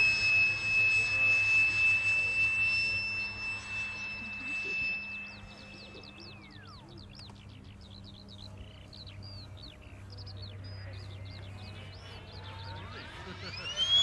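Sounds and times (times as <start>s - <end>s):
birds chirping: 0.0s - 14.0s
electric ducted fan whining: 0.0s - 14.0s.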